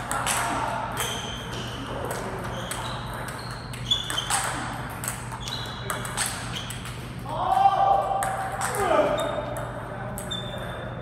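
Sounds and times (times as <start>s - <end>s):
table tennis ball hits: 0.0s - 10.7s.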